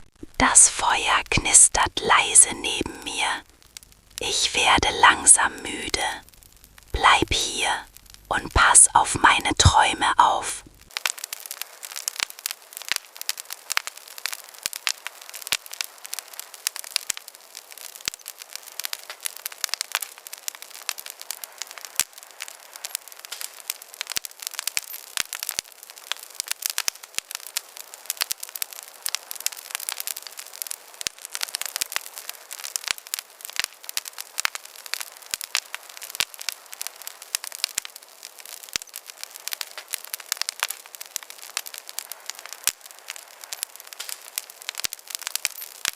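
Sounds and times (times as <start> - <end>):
campfire crackling: 0.0 - 45.9
steady hiss: 0.0 - 45.9.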